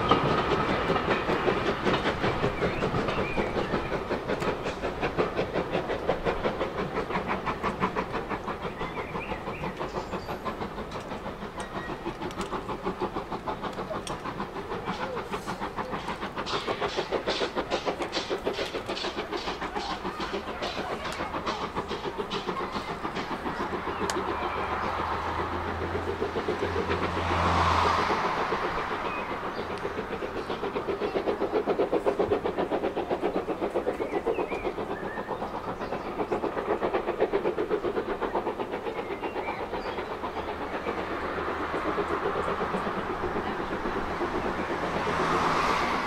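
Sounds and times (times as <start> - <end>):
carriage wheels on rails: 0.0 - 46.0
steam locomotive chuffing: 0.0 - 46.0.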